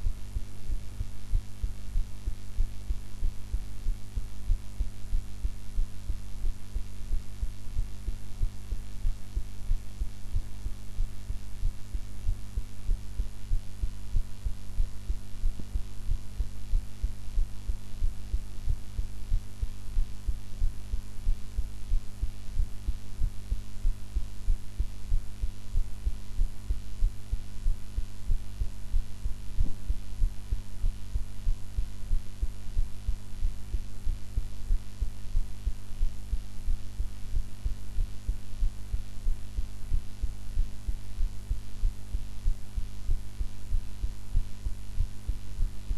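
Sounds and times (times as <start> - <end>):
heartbeat thuds: 0.0 - 45.9
steady hum: 0.0 - 45.9.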